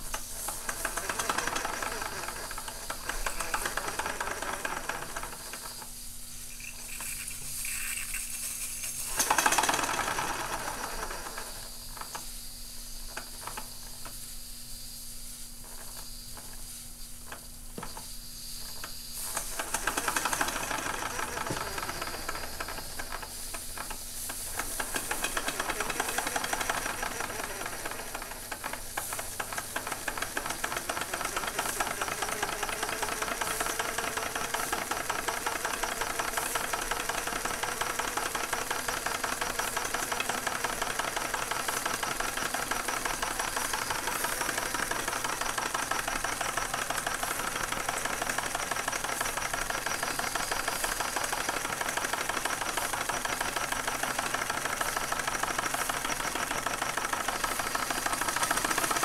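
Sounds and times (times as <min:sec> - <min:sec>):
steam engine running: 0:00.0 - 0:59.0
steam hissing: 0:00.0 - 0:59.0.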